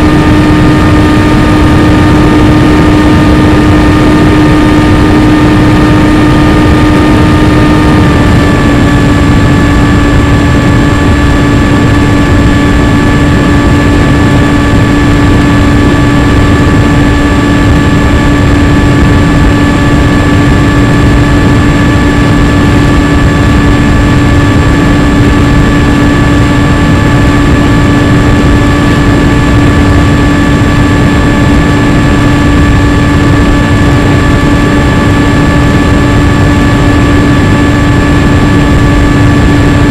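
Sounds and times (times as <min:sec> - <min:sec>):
model plane motor and propeller: 0:00.0 - 0:39.9
wind rush: 0:00.0 - 0:39.9.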